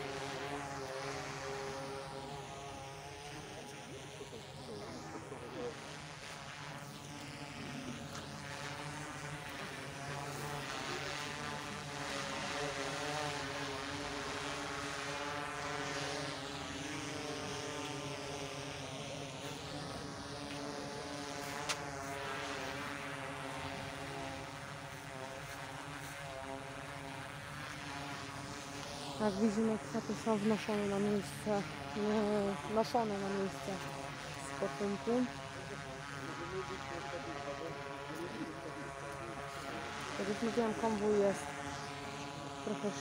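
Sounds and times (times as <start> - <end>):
aircraft engine droning: 0.0 - 43.0.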